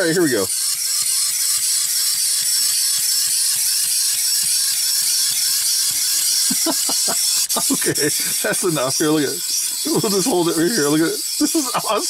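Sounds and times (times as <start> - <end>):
clockwork toy whirring and ticking: 0.0 - 12.0.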